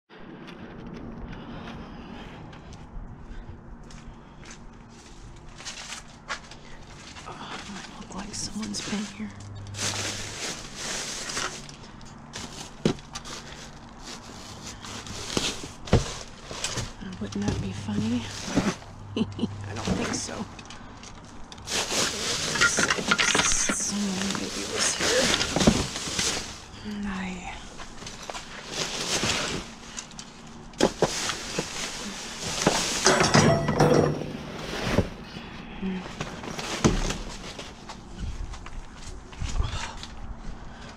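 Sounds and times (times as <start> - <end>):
plastic bags rustling: 4.6 - 39.4.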